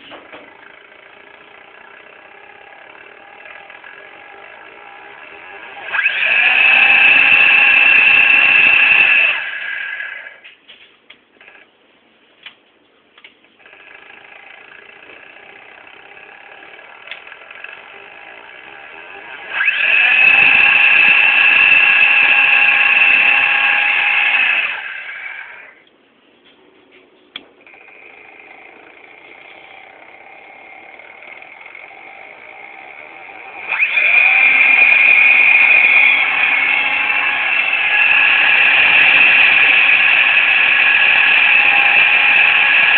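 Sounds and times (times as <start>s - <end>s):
drive motor whining: 0.0s - 10.4s, 13.6s - 25.8s, 27.4s - 42.9s.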